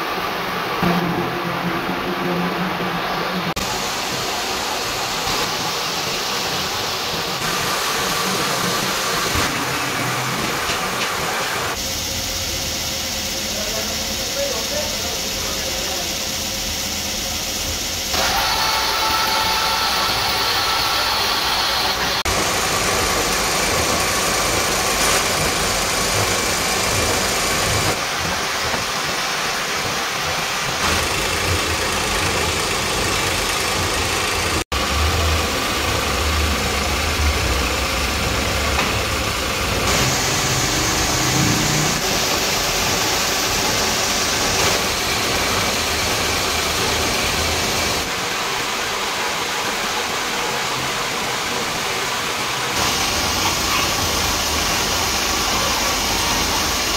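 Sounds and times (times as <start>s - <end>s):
gear hobbing machine cutting steel: 0.1s - 48.3s.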